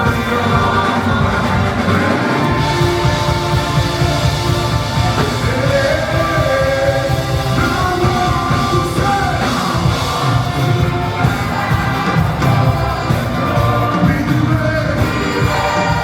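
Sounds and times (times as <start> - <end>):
gospel band playing: 0.0 - 16.0
people singing: 0.0 - 16.0.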